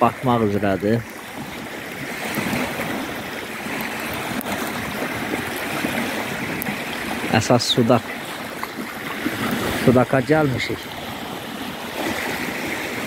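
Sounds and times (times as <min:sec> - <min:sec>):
waves lapping on pebbles: 0:00.0 - 0:13.0.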